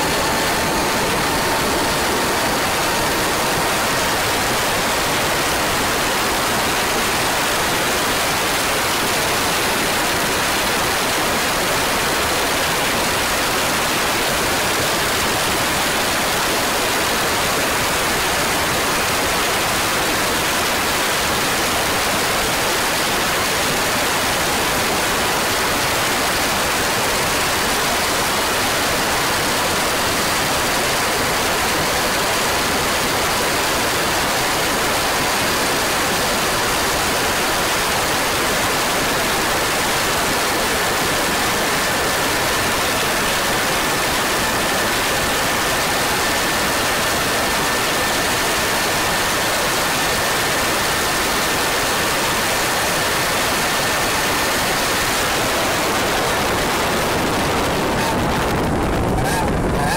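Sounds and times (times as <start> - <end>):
faint steady whine: 0.0 - 59.9
rushing wind: 0.0 - 59.9.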